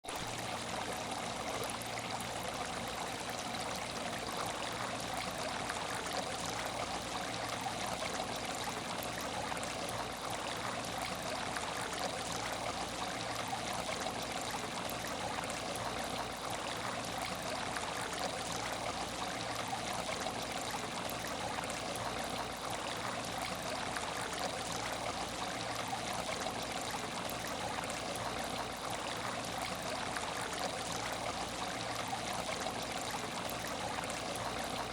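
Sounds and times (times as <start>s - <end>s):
water trickling in aquarium: 0.1s - 34.9s.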